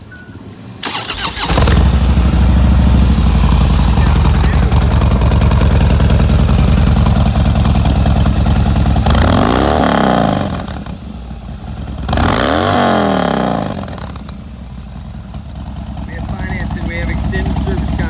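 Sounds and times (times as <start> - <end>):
motorcycle engine idling and revving: 0.8 - 18.0.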